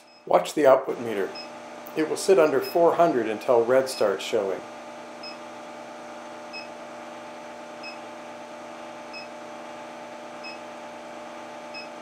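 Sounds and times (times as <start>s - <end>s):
induction heater electrical hum: 0.0s - 12.0s.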